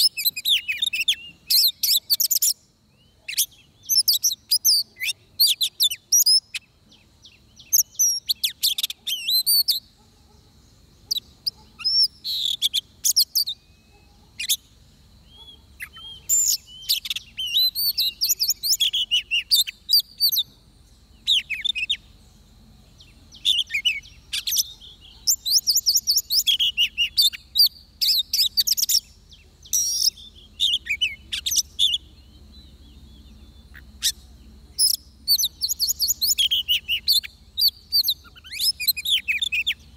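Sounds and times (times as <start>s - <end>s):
bird singing whistled song: 0.0s - 10.0s, 11.0s - 39.9s.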